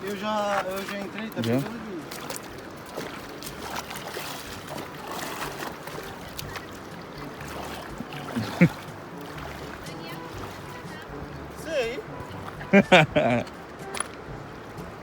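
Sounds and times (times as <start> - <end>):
creek water running: 0.0 - 15.0
small water splashes: 0.0 - 15.0.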